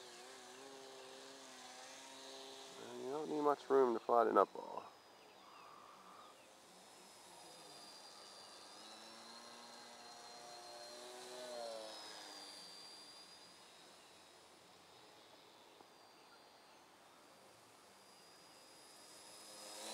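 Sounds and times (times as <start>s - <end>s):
model plane motor buzzing: 0.0s - 19.9s.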